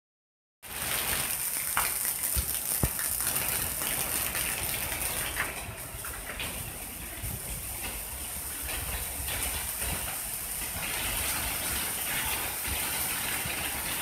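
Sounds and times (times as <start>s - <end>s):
rain falling: 0.6s - 14.0s.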